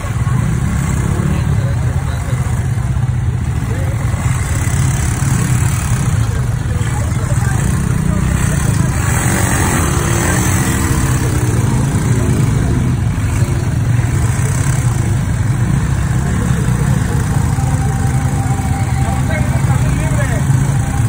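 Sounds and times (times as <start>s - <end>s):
motorcycle engines idling: 0.0s - 21.0s.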